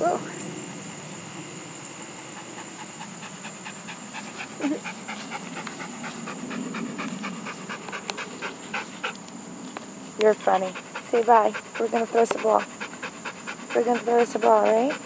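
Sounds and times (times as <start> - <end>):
dog panting: 2.1 - 15.0.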